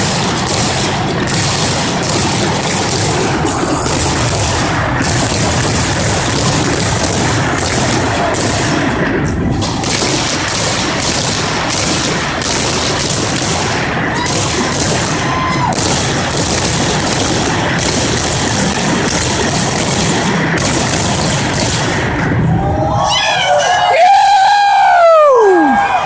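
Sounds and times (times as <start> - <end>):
fireworks booming: 0.0 - 22.6.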